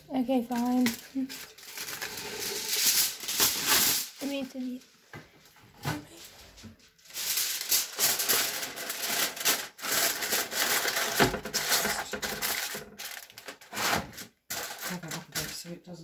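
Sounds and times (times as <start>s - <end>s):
aluminium foil crinkling: 0.1s - 4.9s, 6.1s - 16.0s.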